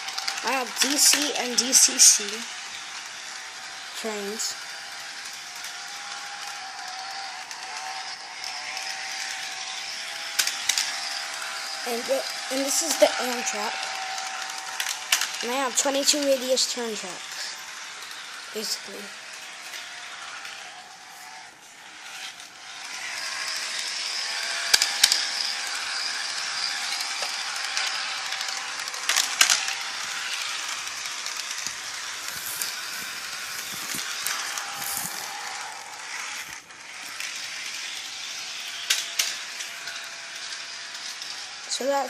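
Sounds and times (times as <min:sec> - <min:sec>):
model train motor whirring: 0:00.0 - 0:42.0
wheels rattling over rails: 0:00.0 - 0:42.0.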